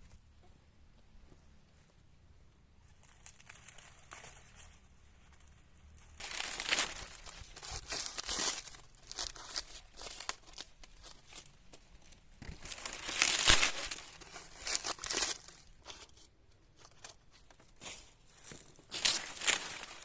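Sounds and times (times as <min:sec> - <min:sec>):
crinkling rustling: 0:02.9 - 0:20.0.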